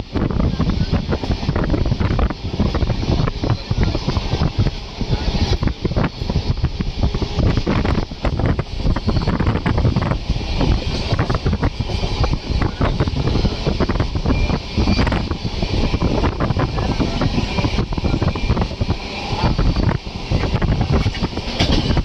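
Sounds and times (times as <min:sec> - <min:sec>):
train rumbling on rails: 0:00.0 - 0:22.0
wind buffeting microphone: 0:00.0 - 0:22.0.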